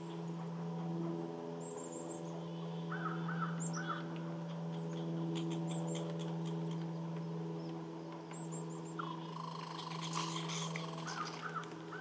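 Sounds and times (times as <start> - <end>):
birds calling: 0.0 - 12.0
steady low hum: 0.0 - 12.0.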